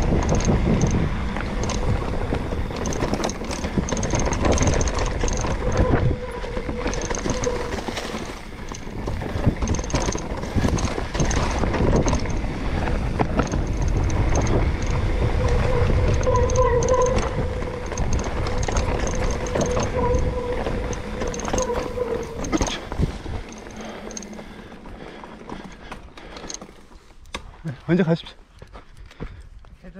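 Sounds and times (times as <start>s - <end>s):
wind rumble on microphone: 0.0s - 25.2s
bike rattling and knocking: 0.0s - 28.0s
bike tyres on dirt and leaves: 0.0s - 29.9s.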